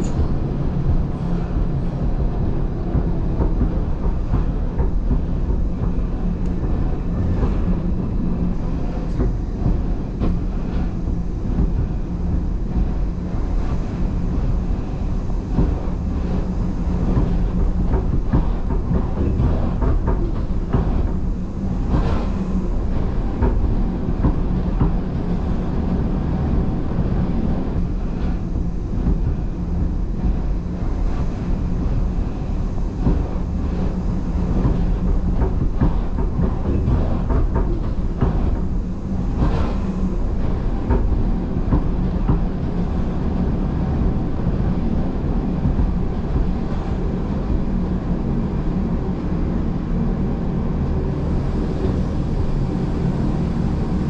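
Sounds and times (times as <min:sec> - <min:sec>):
train wheels and rack gear rumbling: 0:00.0 - 0:54.0.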